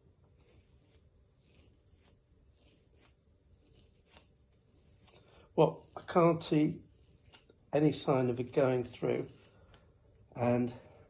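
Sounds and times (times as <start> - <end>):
blade scraping fabric: 0.2 - 9.8.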